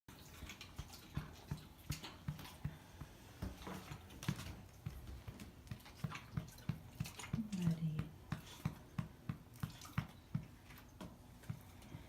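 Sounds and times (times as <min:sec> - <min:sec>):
dog dry heaving: 0:00.1 - 0:12.0.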